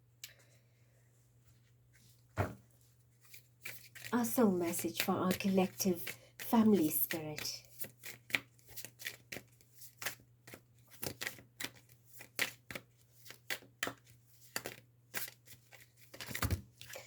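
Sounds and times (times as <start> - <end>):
cards being shuffled: 3.2 - 17.0.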